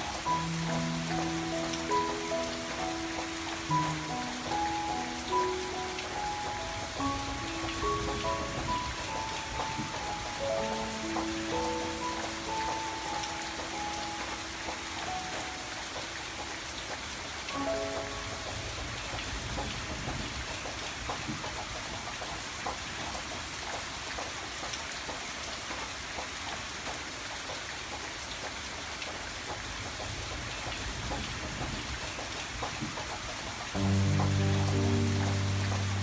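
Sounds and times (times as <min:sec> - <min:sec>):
background music of rain-like patter: 0:00.0 - 0:36.0.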